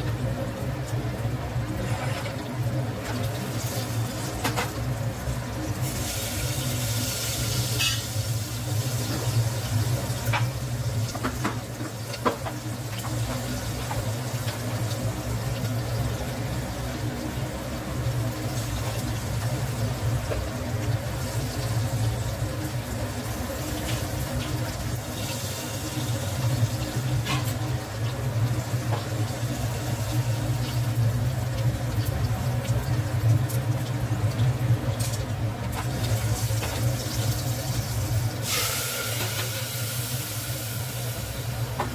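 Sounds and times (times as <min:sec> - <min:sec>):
spices sizzling in a pot: 0:00.0 - 0:41.9.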